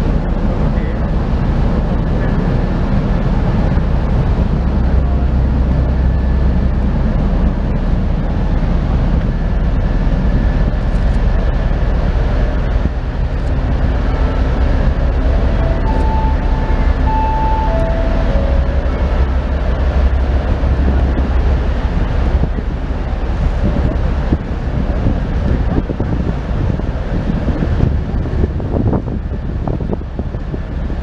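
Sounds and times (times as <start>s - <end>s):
ferry engine drone: 0.0s - 31.0s
wind rumbling on microphone: 0.0s - 31.0s.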